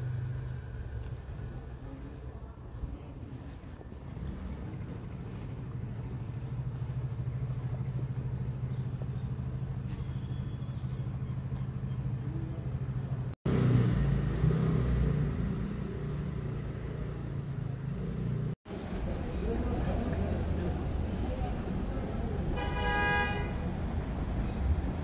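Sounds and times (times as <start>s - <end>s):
vehicle engine running: 0.0s - 22.5s
low street rumble: 0.0s - 25.0s.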